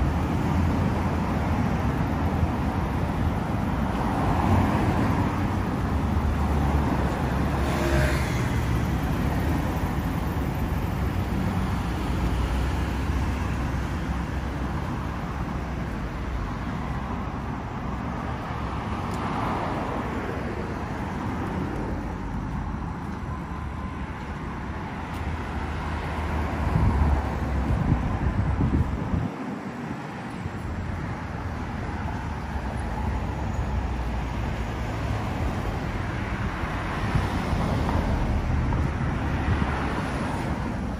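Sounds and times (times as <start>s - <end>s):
cars passing on street: 0.0s - 40.9s.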